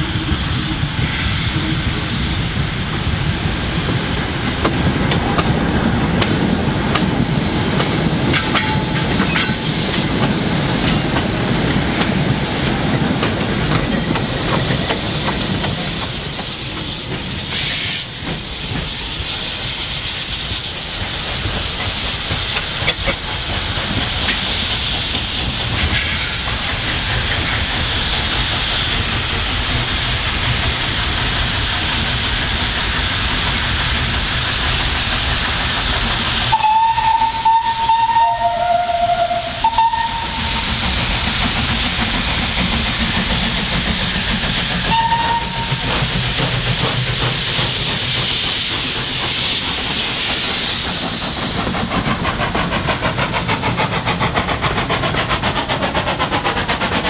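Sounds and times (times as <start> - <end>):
steam engine wheels rumbling: 0.0 - 57.0
steam hissing: 0.0 - 57.0.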